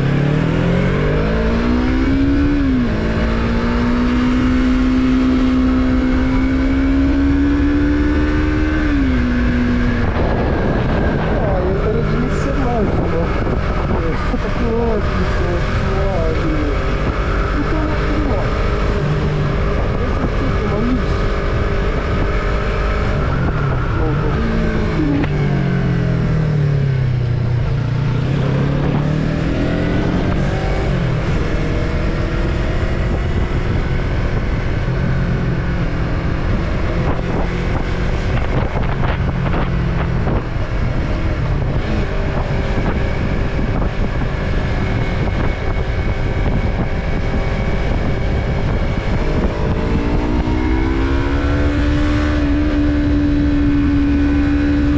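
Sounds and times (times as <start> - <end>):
motorcycle engine: 0.0 - 54.9
wind noise on microphone: 0.0 - 54.9.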